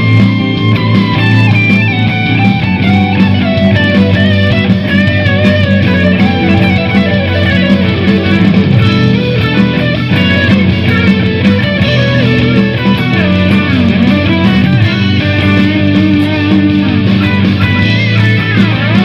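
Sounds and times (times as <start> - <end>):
electric guitar melody: 0.0 - 19.0.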